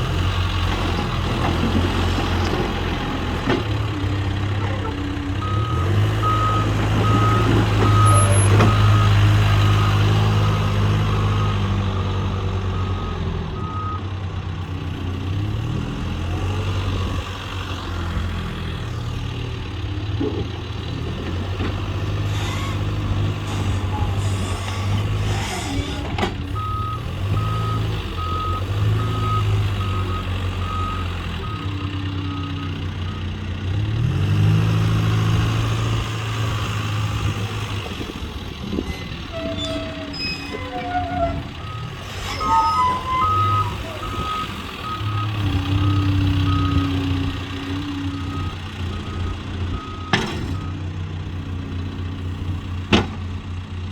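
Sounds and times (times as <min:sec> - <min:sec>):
backhoe diesel engine working: 0:00.0 - 0:53.9.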